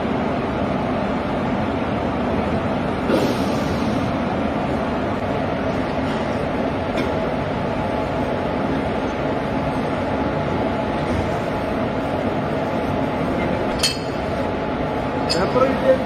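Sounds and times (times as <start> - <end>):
locomotive hum and rumble: 0.0 - 16.0.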